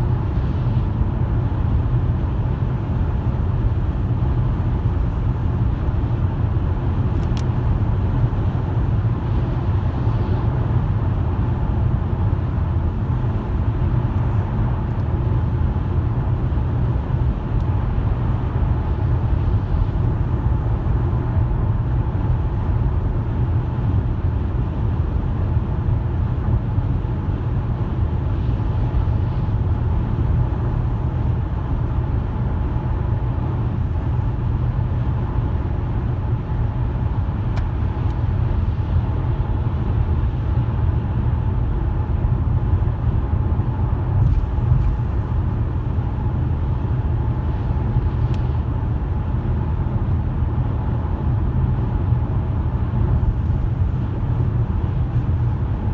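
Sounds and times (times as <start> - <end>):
road and tyre rumble: 0.0 - 55.9.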